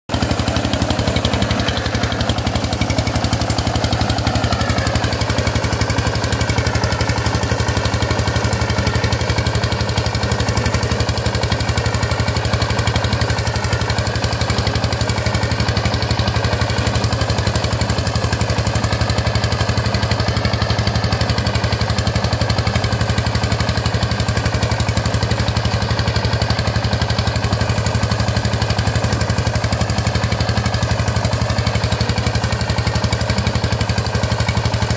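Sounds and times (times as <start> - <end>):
diesel engine chugging: 0.1 - 34.9.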